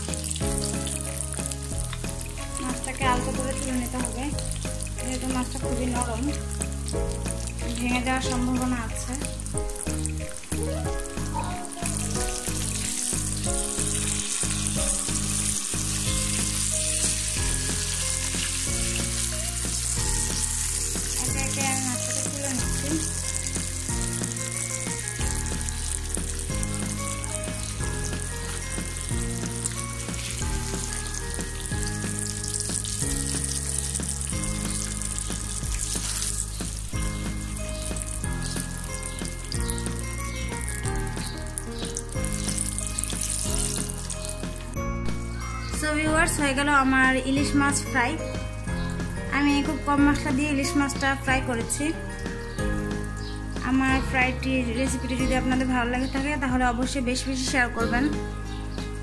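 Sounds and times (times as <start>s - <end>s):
oil sizzling with frying fish: 0.0s - 55.6s
background music with bass: 0.0s - 59.0s.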